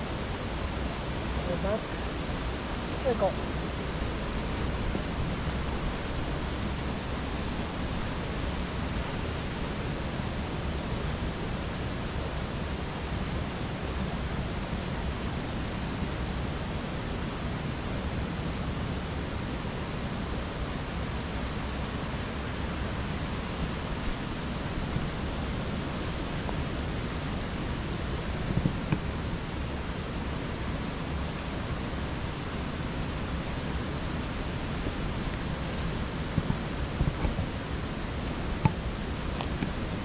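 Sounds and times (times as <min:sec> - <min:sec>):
mountain stream flowing: 0:00.0 - 0:40.0.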